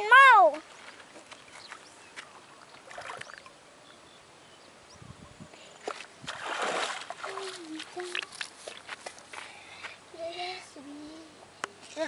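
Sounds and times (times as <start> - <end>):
open water ambience: 0.0 - 10.1.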